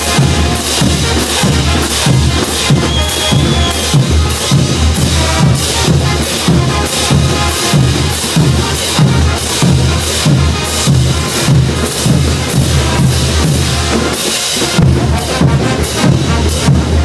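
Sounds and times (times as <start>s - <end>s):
bass drums pounding: 0.0s - 17.0s
brass band playing: 0.0s - 17.0s.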